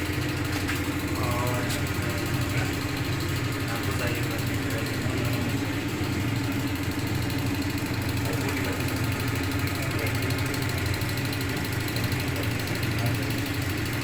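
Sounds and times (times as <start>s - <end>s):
washing machine humming: 0.0s - 14.0s.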